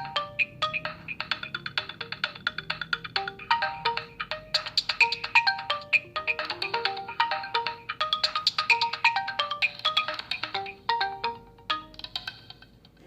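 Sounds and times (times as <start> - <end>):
bell-like phone ringtone melody: 0.0 - 12.4.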